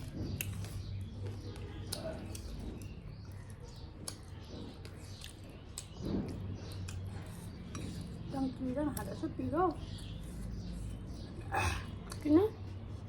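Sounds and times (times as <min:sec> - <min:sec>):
chewing and lip smacking: 0:00.0 - 0:13.0.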